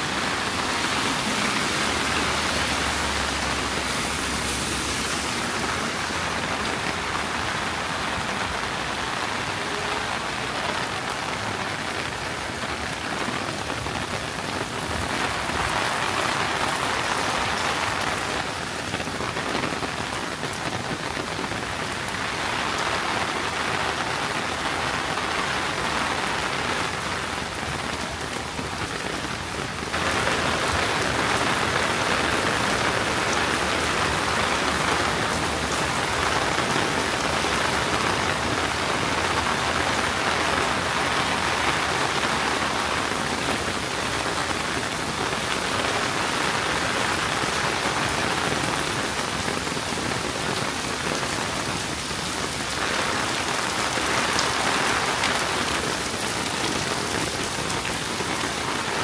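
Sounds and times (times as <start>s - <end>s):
rain splashing on ground: 0.0s - 59.0s.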